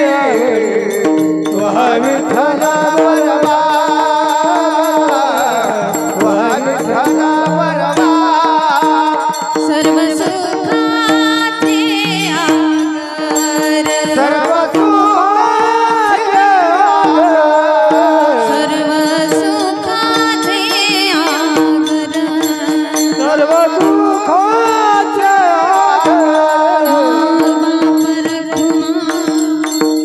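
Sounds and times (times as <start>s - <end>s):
devotional singing: 0.0s - 30.0s
instrumental accompaniment: 0.0s - 30.0s.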